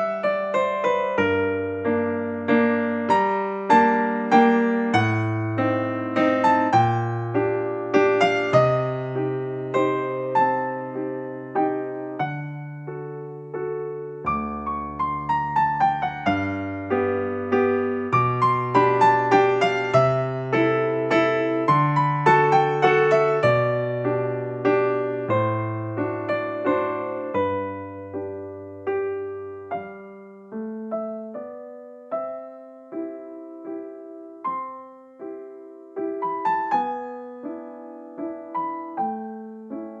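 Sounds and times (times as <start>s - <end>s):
electric piano music: 0.0s - 40.0s.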